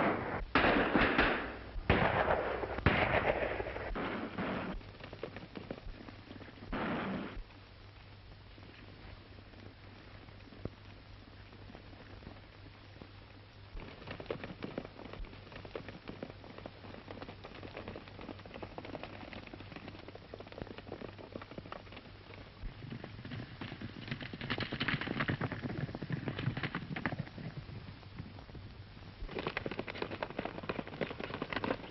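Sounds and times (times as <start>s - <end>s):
horses galloping on dirt: 0.0s - 31.9s
steady low hum: 0.0s - 31.9s.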